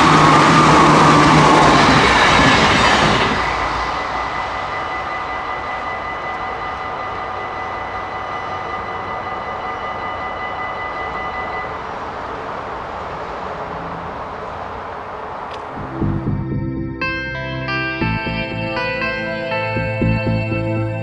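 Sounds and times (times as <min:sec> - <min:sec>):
train rumbling past: 0:00.0 - 0:17.2
level-crossing warning bells: 0:00.0 - 0:21.0.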